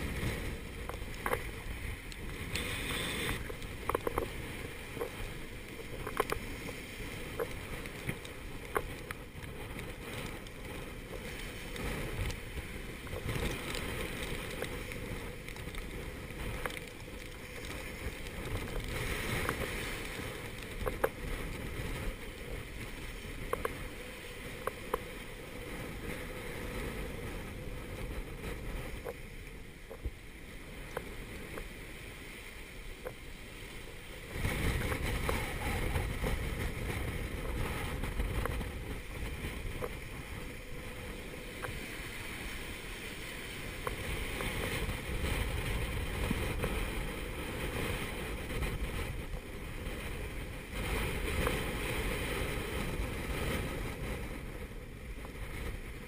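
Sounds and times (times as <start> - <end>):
waves rushing past boat: 0.0 - 56.0
wind buffeting microphone: 0.0 - 56.0.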